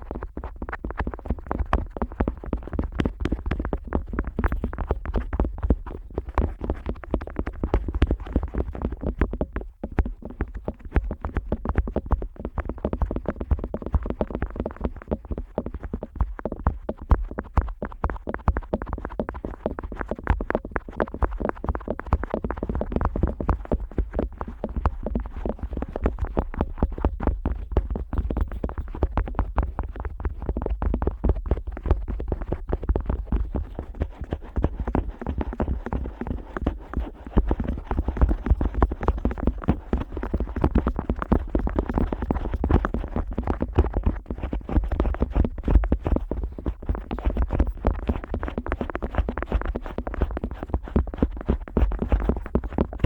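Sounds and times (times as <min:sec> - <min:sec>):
scratching and clicking on microphone: 0:00.0 - 0:53.0.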